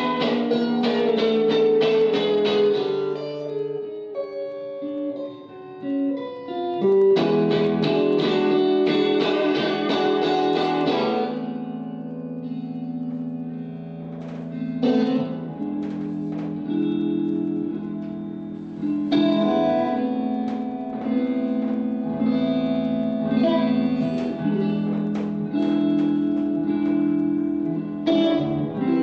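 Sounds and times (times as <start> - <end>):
guitar chords ringing: 0.0 - 29.0.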